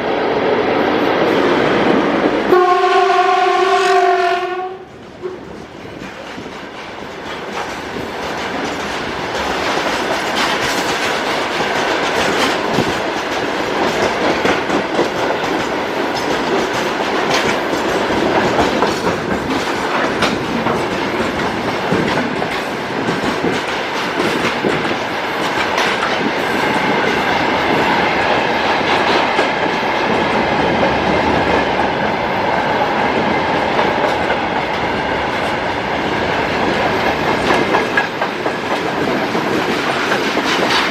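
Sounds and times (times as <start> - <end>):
train wheels clattering on rail joints: 4.5 - 40.9.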